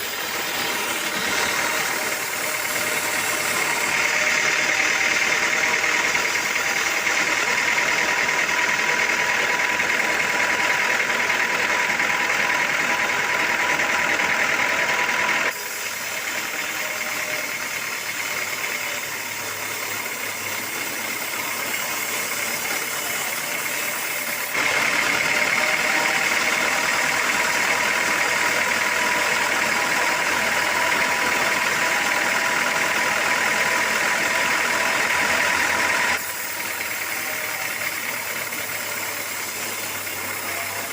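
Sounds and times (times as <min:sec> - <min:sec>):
sawmill machinery whining: 0:00.0 - 0:40.9.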